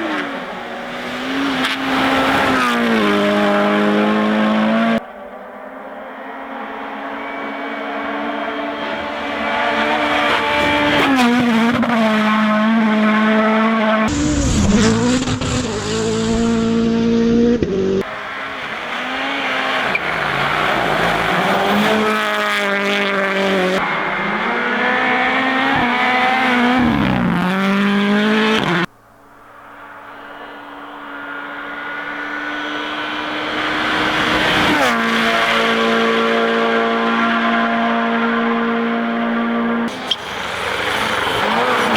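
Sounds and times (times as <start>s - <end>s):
rally car engines revving: 0.0s - 28.9s, 29.6s - 41.9s.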